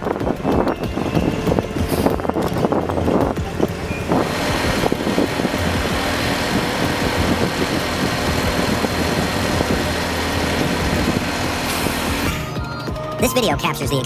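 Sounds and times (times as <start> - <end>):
road noise: 0.0 - 14.0
truck engine running: 0.0 - 14.0.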